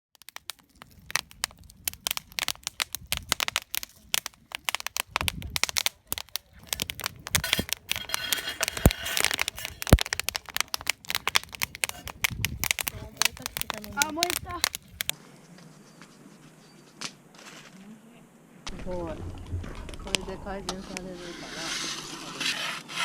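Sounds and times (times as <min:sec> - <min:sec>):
wood fire crackling: 0:00.1 - 0:15.2, 0:18.6 - 0:23.0.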